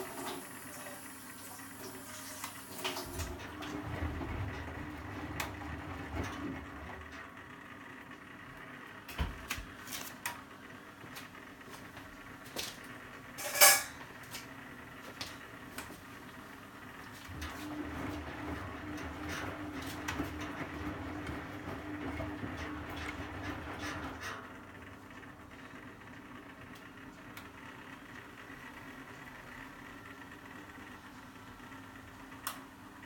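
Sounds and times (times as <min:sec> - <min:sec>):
washing machine motor hum: 0:00.0 - 0:33.0.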